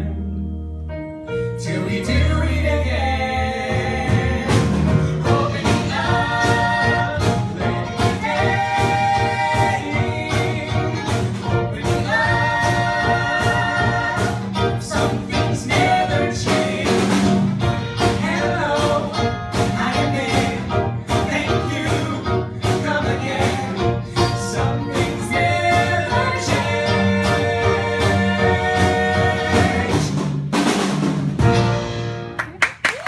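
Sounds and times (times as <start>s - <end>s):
singers performing a show song: 1.3s - 32.2s
instrumental accompaniment: 3.4s - 32.8s.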